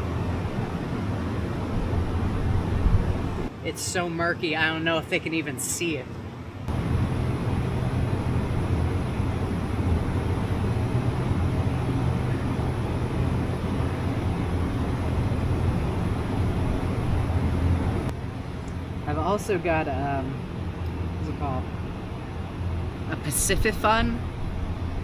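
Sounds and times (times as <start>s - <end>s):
steady low rumbling noise: 0.0s - 3.6s, 6.6s - 25.0s.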